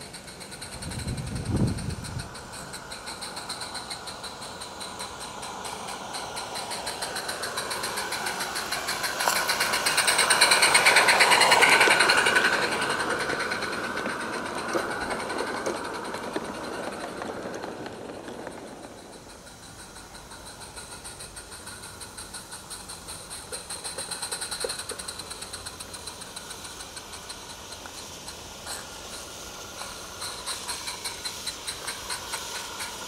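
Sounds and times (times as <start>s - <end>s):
coaches rolling on rails: 0.0s - 33.0s
steam locomotive chuffing: 0.0s - 33.0s.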